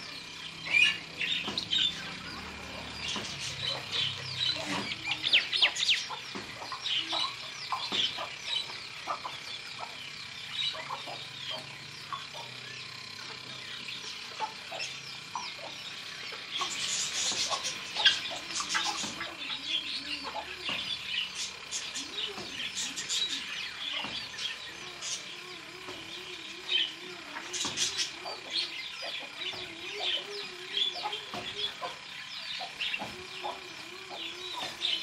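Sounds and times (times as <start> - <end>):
small birds chirping and twittering: 0.0 - 35.0.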